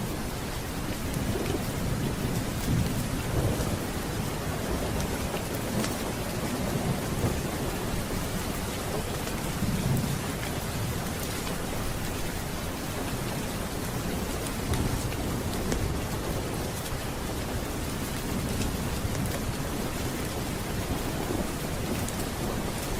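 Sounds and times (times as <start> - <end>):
low rolling thunder: 0.0 - 11.8, 12.5 - 22.9
steady rain: 0.0 - 22.9.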